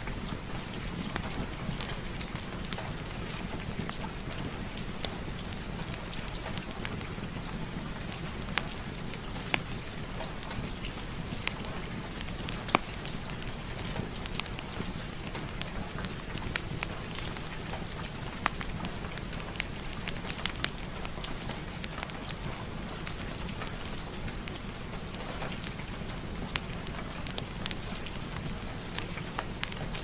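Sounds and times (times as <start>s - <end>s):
steady rain: 0.0s - 30.0s
wood fire crackling: 0.0s - 30.0s.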